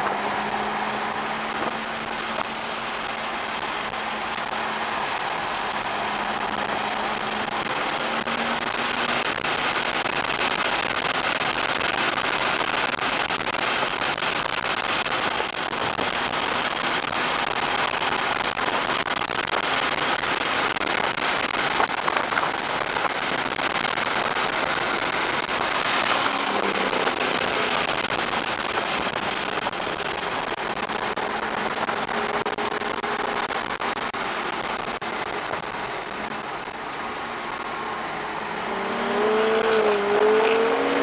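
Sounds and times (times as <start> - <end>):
car engine wind and tyre noise: 0.0 - 41.0.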